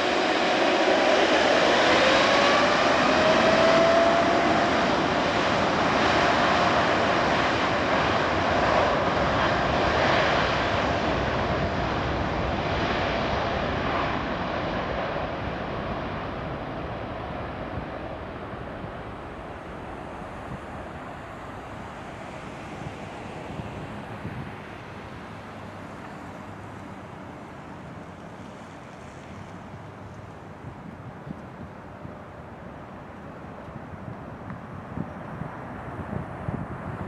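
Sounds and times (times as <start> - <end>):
jet engines spooling up: 0.0 - 30.2.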